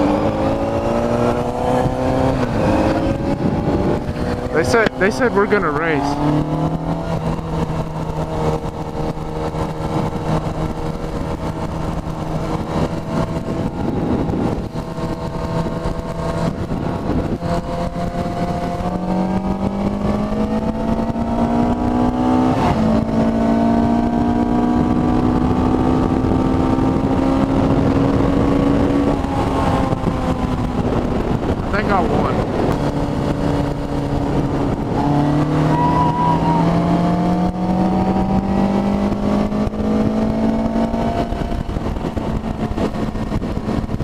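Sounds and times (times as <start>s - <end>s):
motorcycle engine revving: 0.0s - 44.0s
wind rushing over microphone: 0.0s - 44.0s.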